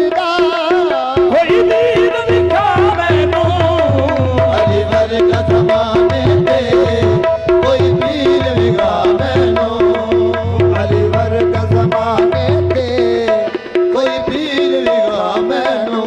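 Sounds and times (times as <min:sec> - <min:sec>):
harmonium: 0:00.0 - 0:16.0
person singing: 0:00.0 - 0:16.0
tabla playing fast: 0:00.0 - 0:16.0.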